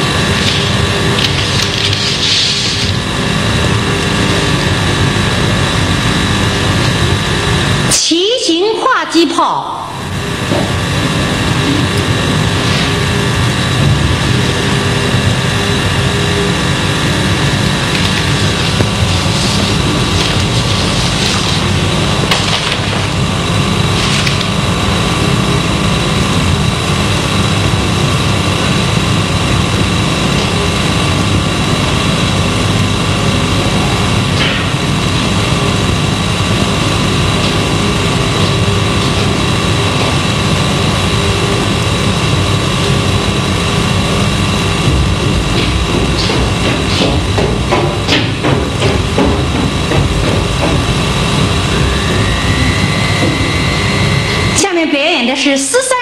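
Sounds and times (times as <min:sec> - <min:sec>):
tape hiss and hum: 0:00.0 - 0:56.0.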